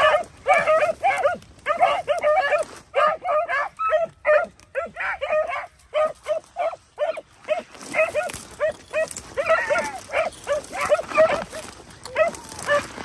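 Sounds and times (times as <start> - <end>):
hounds yelping: 0.0 - 13.0.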